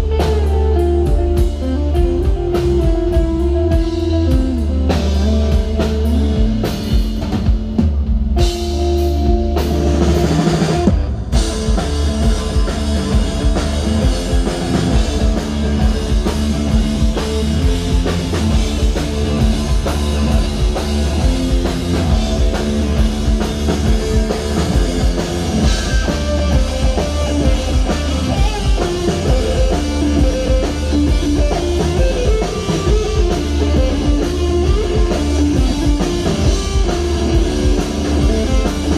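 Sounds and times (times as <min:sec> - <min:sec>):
drum kit with cymbals: 0:00.0 - 0:38.9
guitar riff: 0:00.0 - 0:38.9
rock band playing: 0:00.0 - 0:38.9.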